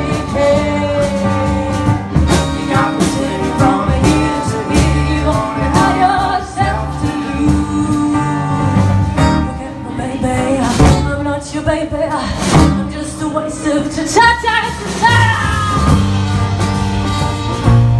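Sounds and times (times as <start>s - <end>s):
drum kit with cymbals: 0.0s - 17.9s
folk band playing: 0.0s - 17.9s.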